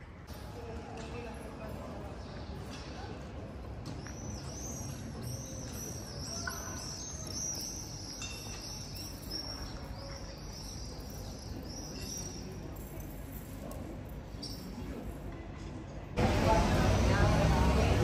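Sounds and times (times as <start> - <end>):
street noise hum: 0.0 - 18.0.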